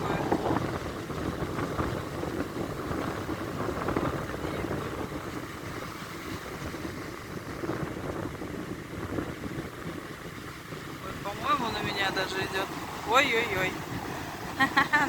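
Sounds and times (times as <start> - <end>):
storm waves surging on beach: 0.0 - 15.0
strong wind buffeting microphone: 0.0 - 15.0.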